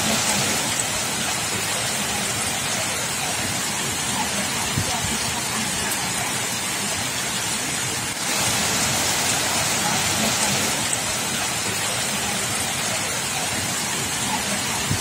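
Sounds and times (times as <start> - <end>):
torrential rain: 0.0 - 15.0
water running across pavement: 0.0 - 15.0.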